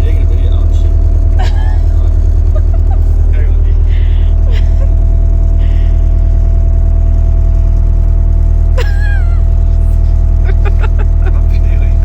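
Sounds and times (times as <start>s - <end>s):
boat engine droning: 0.0s - 12.0s
constant hum: 0.0s - 12.0s.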